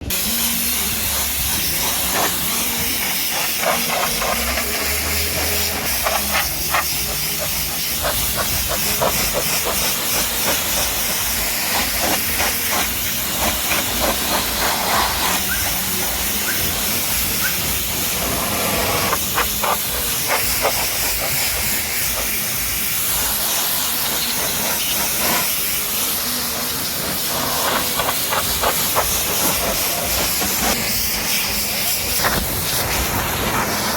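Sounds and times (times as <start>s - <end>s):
pressure washer spray hissing: 0.0s - 33.9s.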